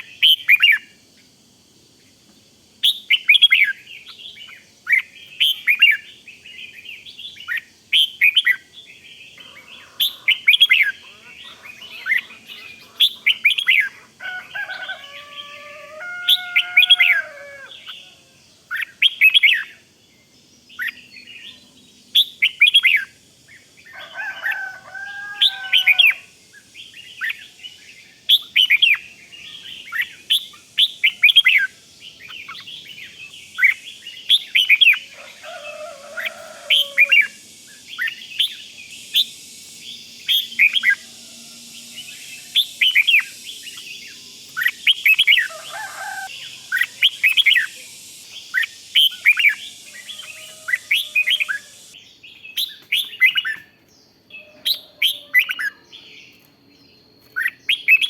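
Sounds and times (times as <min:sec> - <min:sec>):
birds singing whistled chirps: 0:00.0 - 0:58.0.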